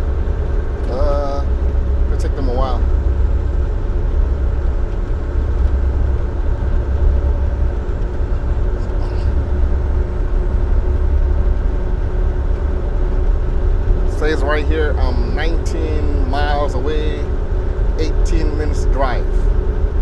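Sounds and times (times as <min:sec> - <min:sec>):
steady engine tones: 0:00.0 - 0:20.0
truck engine and road drone: 0:00.0 - 0:20.0.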